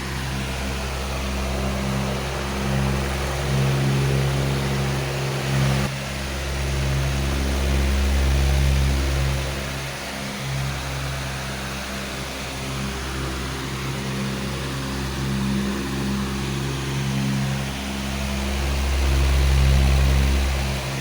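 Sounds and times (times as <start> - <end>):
electric fan running: 0.0 - 21.0.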